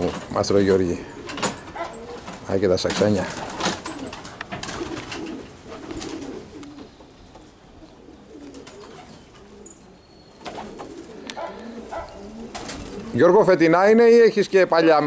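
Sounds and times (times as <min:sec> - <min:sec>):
pigeons cooing: 0:00.0 - 0:13.7.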